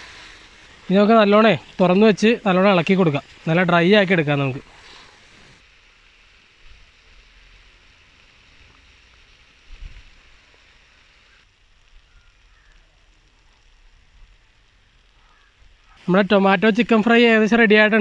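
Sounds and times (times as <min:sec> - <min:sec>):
sauce sizzling and bubbling in pan: 0:00.0 - 0:18.0
wood fire crackling: 0:00.0 - 0:18.0.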